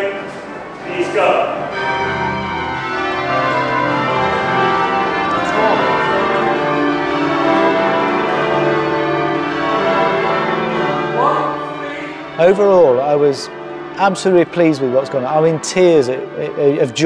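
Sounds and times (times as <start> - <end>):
church bells ringing changes: 0.0 - 17.0.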